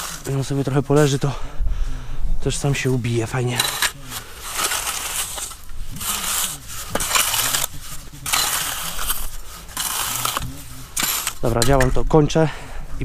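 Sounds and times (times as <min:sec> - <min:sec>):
level scraping across sand: 0:00.0 - 0:01.2, 0:02.7 - 0:11.9.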